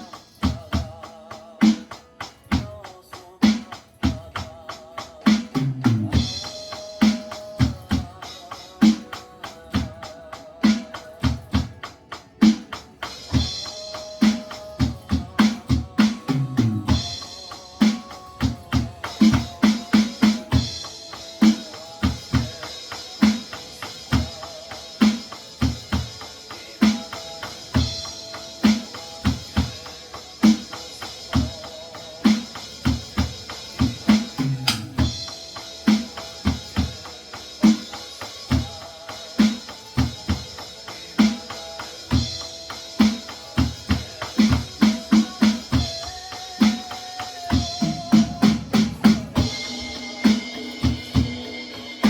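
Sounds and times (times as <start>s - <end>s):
electronic drum kit beat: 0.0s - 52.0s
instrumental backing track: 0.0s - 52.0s.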